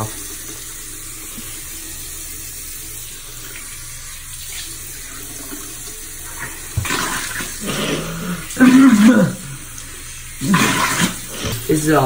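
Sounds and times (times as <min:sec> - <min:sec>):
sink tap running: 0:00.0 - 0:12.0.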